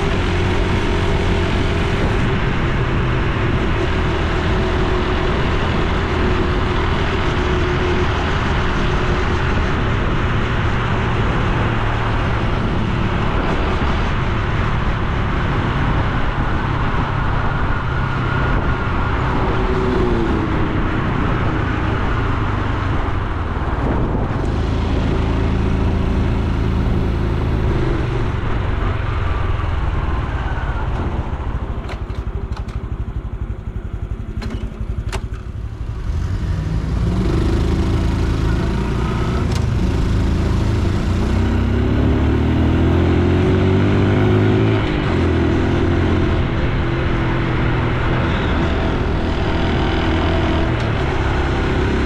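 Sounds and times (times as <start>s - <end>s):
motorcycle engine: 0.0s - 52.0s.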